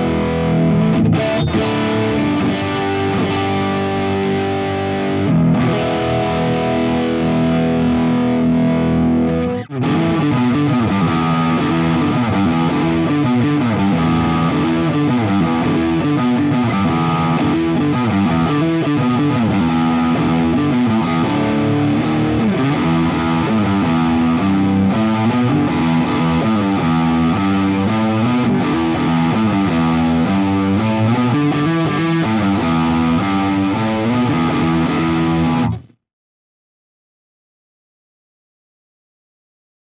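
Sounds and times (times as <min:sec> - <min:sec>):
distorted electric guitar: 0:00.0 - 0:36.0.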